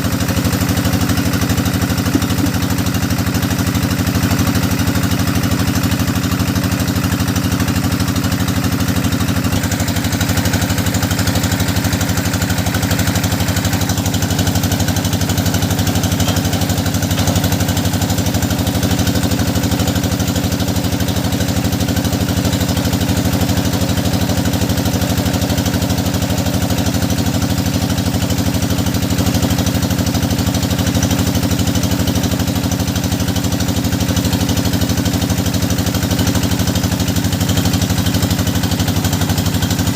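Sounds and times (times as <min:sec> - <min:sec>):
drilling machine engine running: 0:00.0 - 0:39.9.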